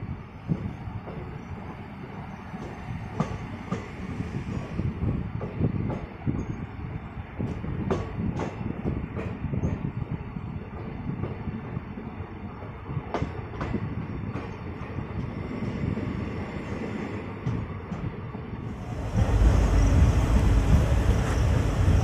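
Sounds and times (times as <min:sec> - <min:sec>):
train rumble from on board: 0:00.0 - 0:22.0.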